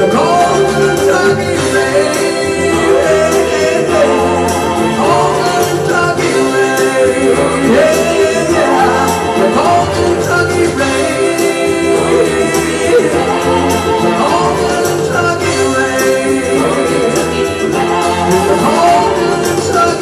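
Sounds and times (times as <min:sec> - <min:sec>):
live band playing ballad: 0:00.0 - 0:20.0
voices singing: 0:00.0 - 0:20.0.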